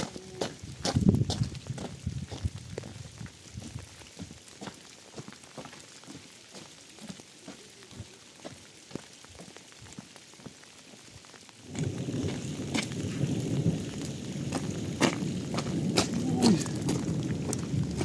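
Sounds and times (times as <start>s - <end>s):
heavy rain rushing: 0.0s - 18.0s
light rain patter: 0.0s - 18.0s.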